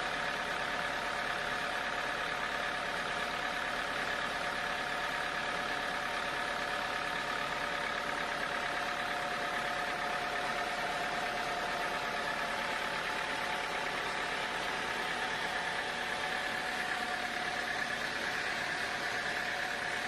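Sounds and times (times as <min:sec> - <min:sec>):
sawmill motor drone: 0:00.0 - 0:20.0.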